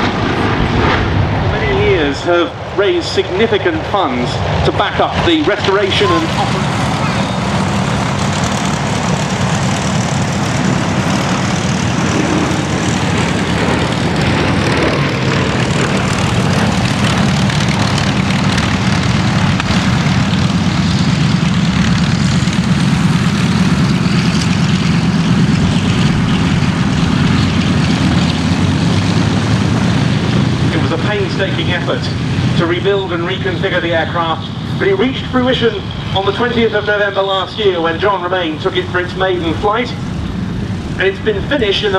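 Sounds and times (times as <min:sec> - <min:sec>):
radial aircraft engines running: 0:00.0 - 0:41.9.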